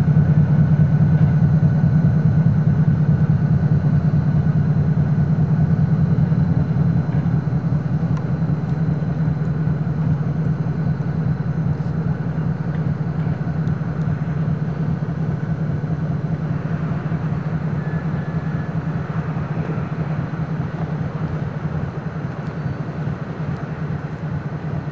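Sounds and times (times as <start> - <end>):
diesel locomotive engine droning: 0.0 - 24.9.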